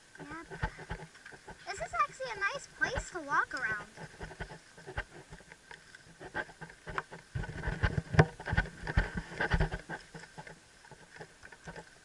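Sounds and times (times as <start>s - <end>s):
clicks and knocks on microphone: 0.2s - 1.6s, 2.9s - 12.0s.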